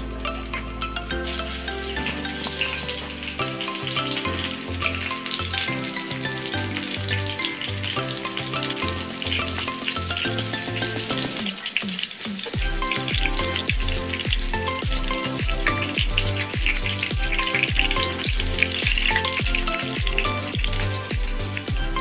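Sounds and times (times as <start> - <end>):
background music with steady beat: 0.0 - 22.0
chicken sizzling in hot oil: 0.0 - 22.0.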